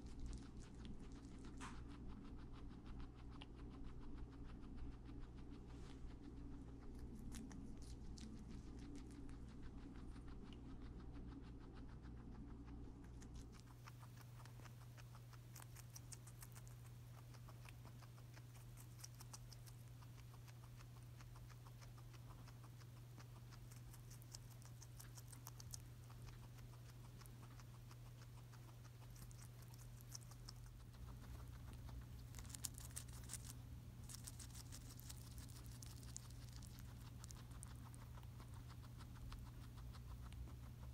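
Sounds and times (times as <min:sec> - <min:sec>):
guinea pig chewing: 0:00.0 - 0:40.9
low hum: 0:00.0 - 0:40.9.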